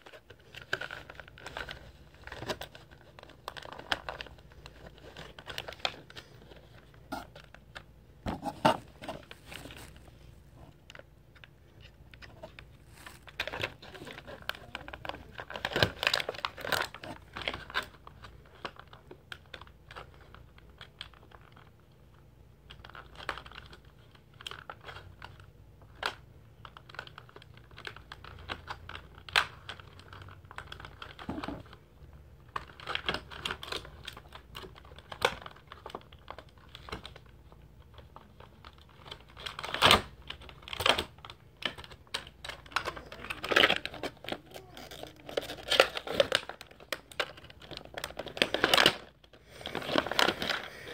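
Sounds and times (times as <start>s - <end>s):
plastic packaging crinkling: 0.0s - 21.9s, 22.6s - 50.9s.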